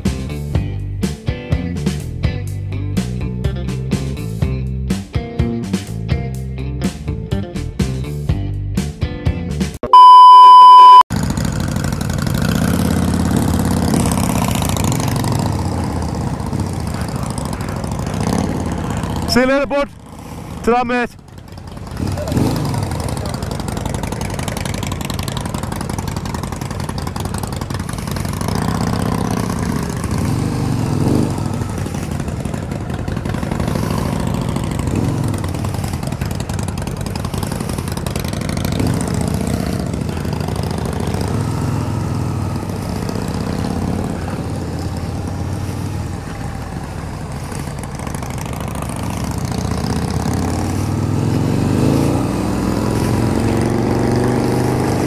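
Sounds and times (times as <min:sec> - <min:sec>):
motorcycle engine revving: 0:10.6 - 0:55.0.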